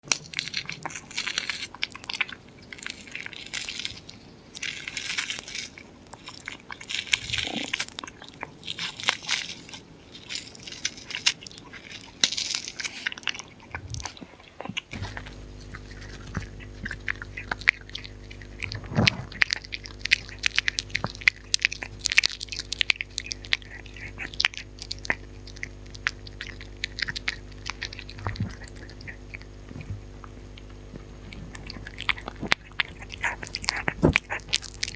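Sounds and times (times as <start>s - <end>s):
dog chewing and crunching food: 0.0s - 34.9s
steady low hum: 0.0s - 34.9s.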